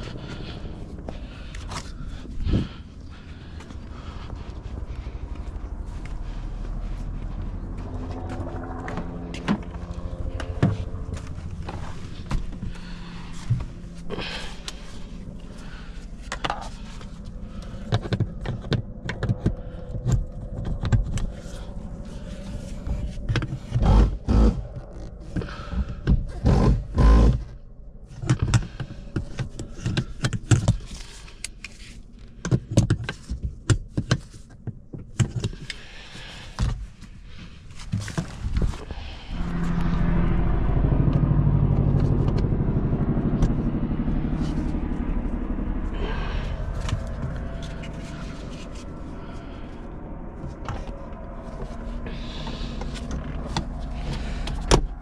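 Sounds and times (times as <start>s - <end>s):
steady low rumble: 0.0s - 32.4s, 35.5s - 55.0s.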